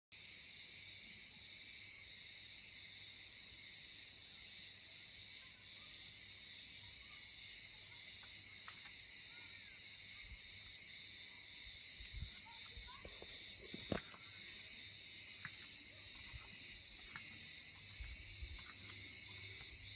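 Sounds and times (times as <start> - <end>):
cicadas buzzing: 0.2 - 19.9.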